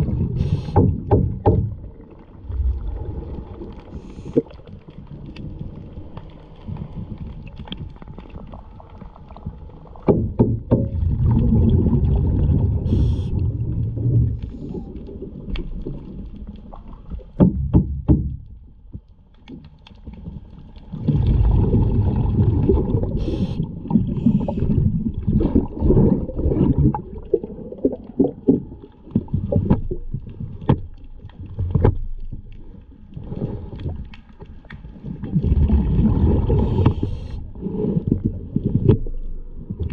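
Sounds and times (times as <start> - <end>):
diver's exhaled bubbles underwater: 0.0 - 17.5, 20.2 - 39.9.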